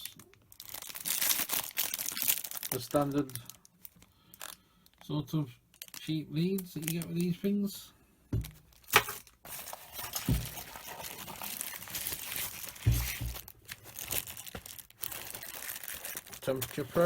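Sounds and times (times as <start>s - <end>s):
plastic packaging crinkling: 0.0s - 5.0s, 5.7s - 7.5s, 8.4s - 17.0s.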